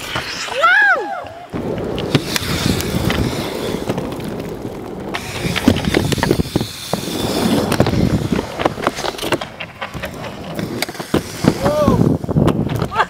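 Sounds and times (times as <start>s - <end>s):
skate wheels rolling on wood: 0.0s - 13.0s
skate clacks on ramp: 1.2s - 13.0s.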